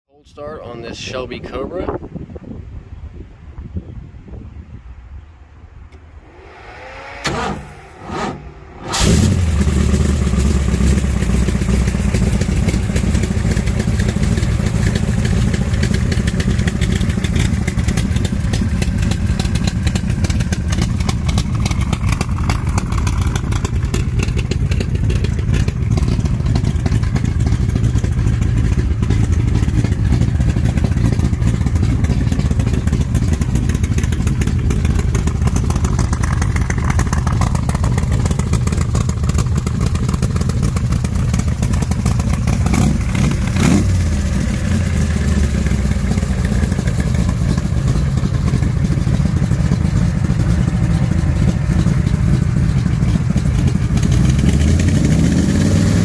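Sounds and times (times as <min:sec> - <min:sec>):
car engine idling loudly: 0:06.2 - 0:56.0
engine cranking: 0:07.0 - 0:54.9.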